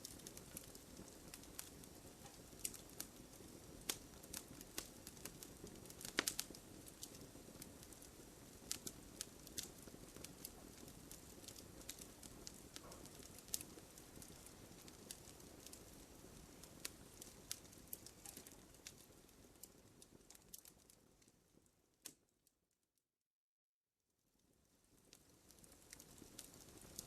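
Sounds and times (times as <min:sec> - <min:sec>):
wood fire crackling and popping: 0:00.0 - 0:22.3, 0:24.4 - 0:27.0.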